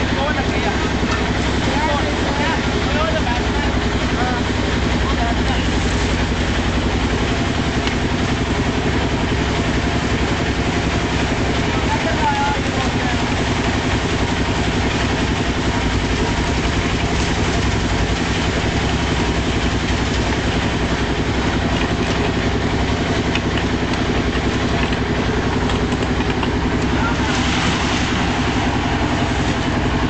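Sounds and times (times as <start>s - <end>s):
concrete mixer engine chugging: 0.0s - 30.0s.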